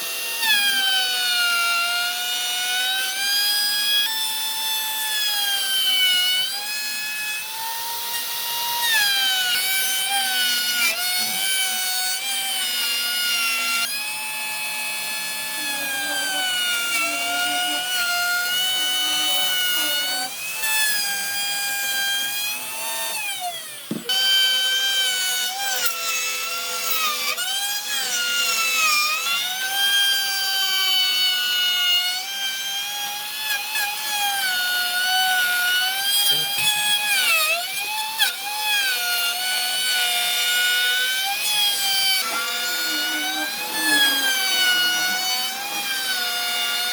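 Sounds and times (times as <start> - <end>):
power tool motor whine: 0.0 - 46.9.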